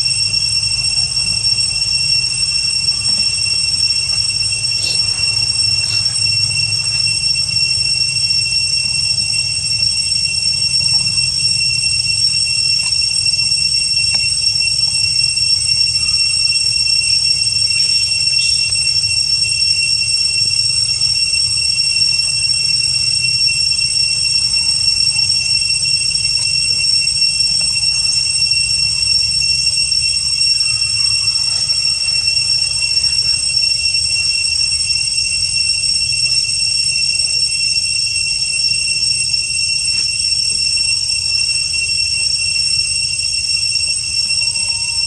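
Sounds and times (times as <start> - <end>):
cicadas droning: 0.0 - 45.0.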